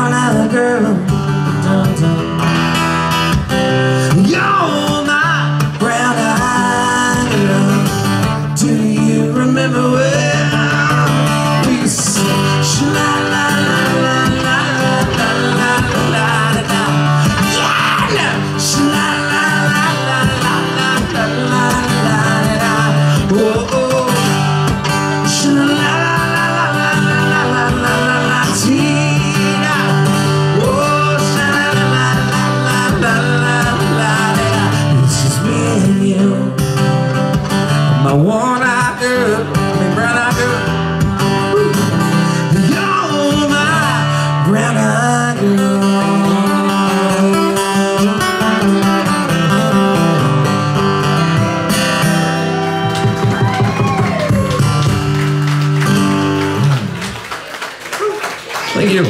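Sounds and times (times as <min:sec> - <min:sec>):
man singing: 0:00.0 - 0:50.5
acoustic guitar strummed: 0:00.0 - 0:57.1.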